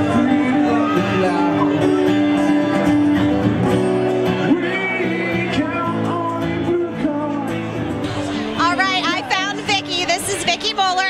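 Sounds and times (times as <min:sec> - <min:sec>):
man singing: 0:00.0 - 0:09.4
acoustic guitars strummed: 0:00.0 - 0:11.0.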